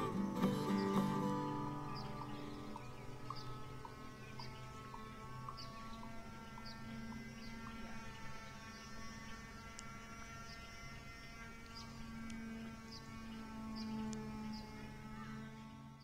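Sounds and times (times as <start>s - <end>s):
faint steady hum of tones: 0.0s - 16.0s.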